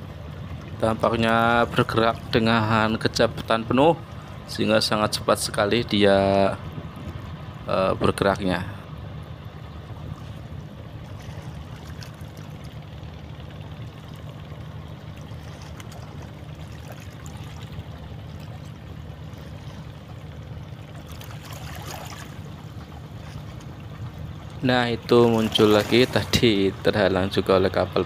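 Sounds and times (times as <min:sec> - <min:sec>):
boat engine droning: 0:00.0 - 0:28.0
water lapping and sloshing: 0:00.0 - 0:28.0.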